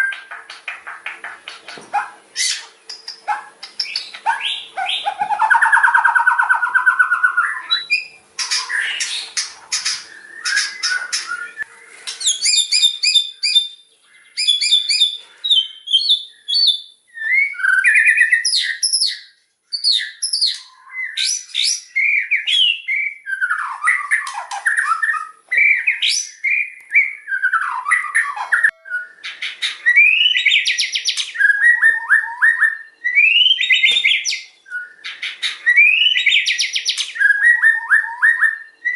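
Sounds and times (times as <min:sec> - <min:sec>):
bird singing whistled phrases: 0:02.4 - 0:38.9.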